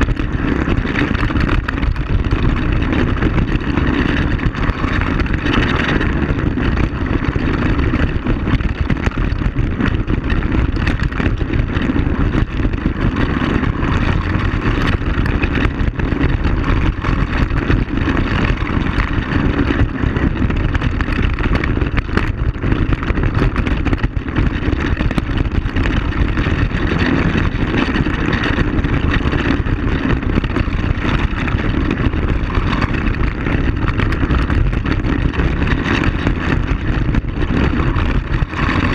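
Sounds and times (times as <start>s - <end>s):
knocks and rattles on gravel: 0.0s - 38.9s
quad bike engine running: 0.0s - 38.9s.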